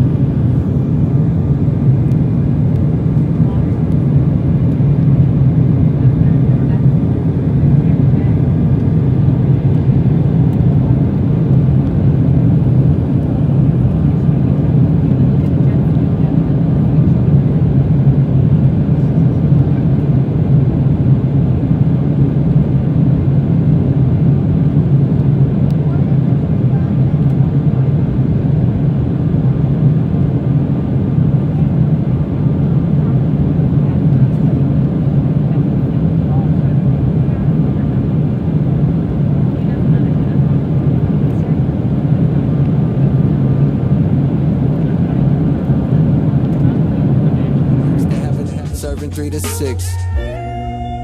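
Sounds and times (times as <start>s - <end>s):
jet engine rumble in cabin: 0.0s - 51.0s.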